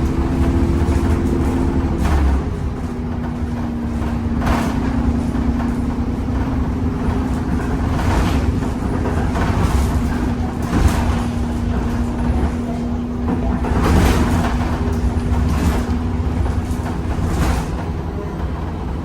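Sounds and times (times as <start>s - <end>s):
bus engine low rumble: 0.0s - 19.0s.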